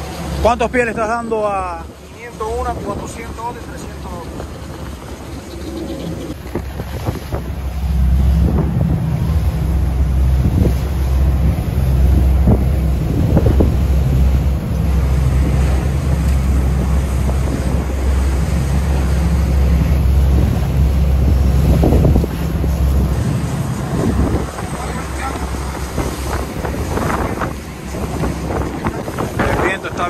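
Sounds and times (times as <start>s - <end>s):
boat engines droning: 0.0s - 30.0s
water rushing in wake: 0.0s - 30.0s
wind buffeting microphone: 0.0s - 30.0s.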